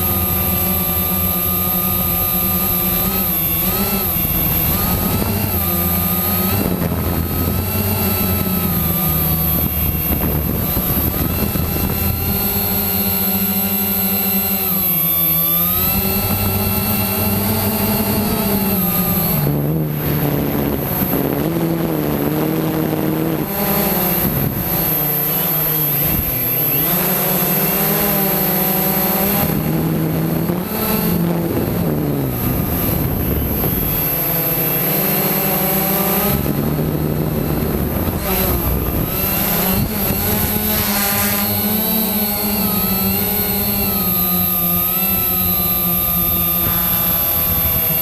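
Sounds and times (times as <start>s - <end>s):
quadcopter propellers buzzing: 0.0s - 48.0s.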